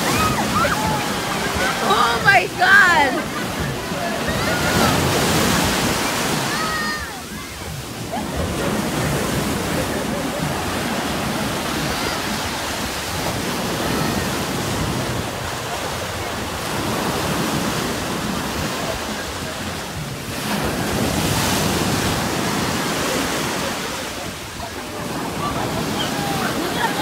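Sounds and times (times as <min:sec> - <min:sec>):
surf washing through shallows: 0:00.0 - 0:27.0.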